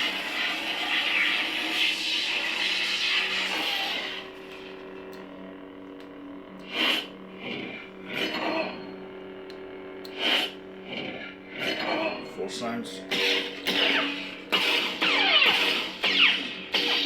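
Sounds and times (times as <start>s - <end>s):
lightsaber electric hum: 0.0s - 17.0s.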